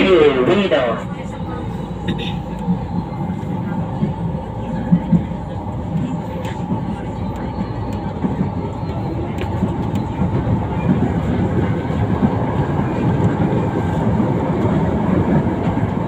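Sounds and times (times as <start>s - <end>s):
train wheels rolling on rail: 0.0s - 16.0s.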